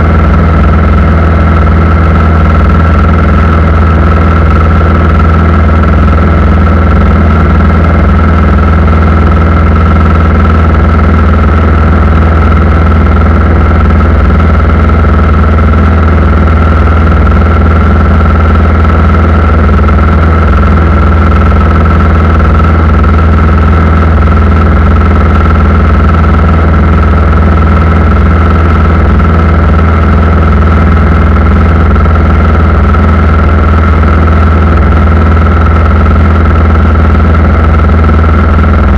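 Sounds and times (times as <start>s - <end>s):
constant high whine: 0.0s - 38.9s.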